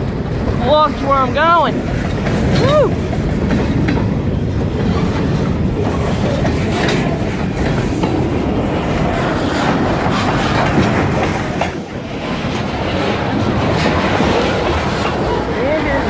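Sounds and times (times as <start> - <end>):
freight train rolling past: 0.0 - 16.0
wheels clacking over rail joints: 0.0 - 16.0.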